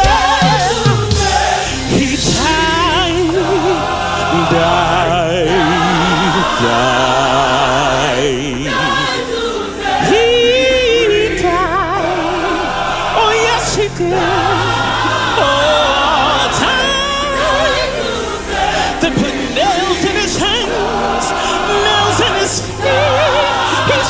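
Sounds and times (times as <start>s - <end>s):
band accompaniment: 0.0s - 24.0s
choir singing gospel: 0.0s - 24.0s.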